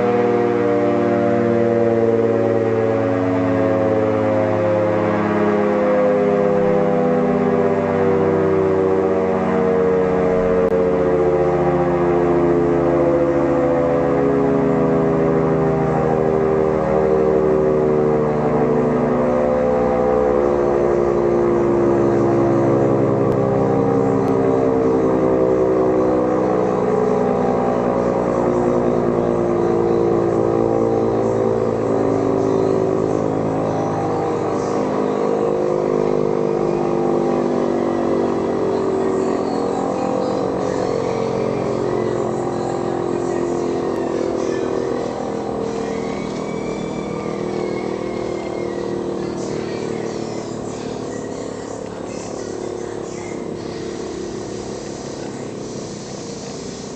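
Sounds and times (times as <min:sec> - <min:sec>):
synthesized alarm drone: 0:00.0 - 0:56.9.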